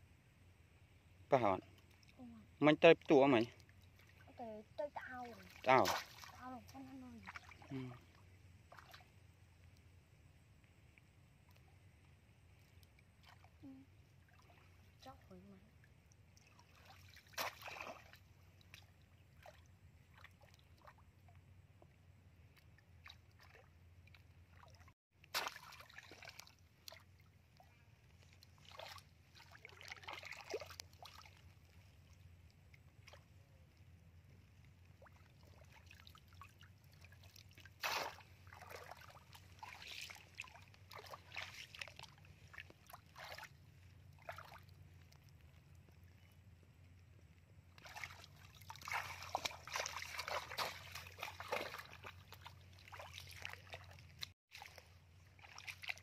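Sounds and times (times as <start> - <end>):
muddy water sloshing and splashing: 1.4 - 10.0, 10.7 - 56.0.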